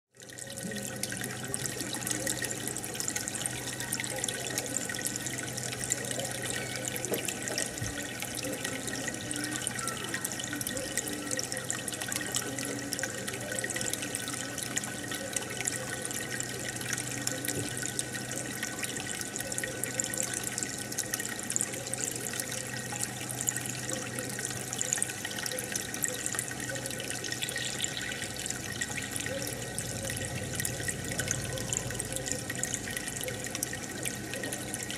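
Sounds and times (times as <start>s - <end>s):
aquarium filter bubbling water: 0.1s - 34.9s
water drips and splashes: 0.2s - 34.9s.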